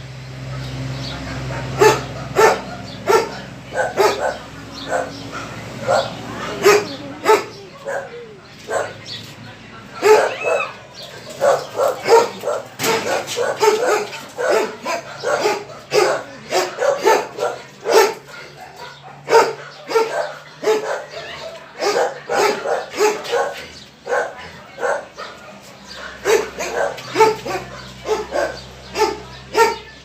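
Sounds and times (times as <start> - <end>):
dog barking and yipping: 0.5 - 9.1, 10.0 - 30.0.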